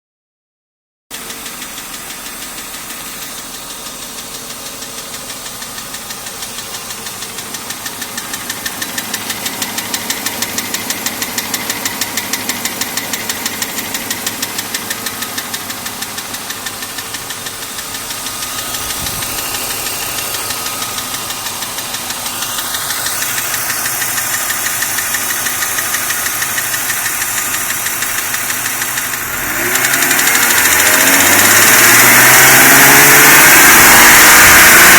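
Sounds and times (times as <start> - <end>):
engine running: 1.1 - 34.9
fast even engine ticking: 1.1 - 34.9.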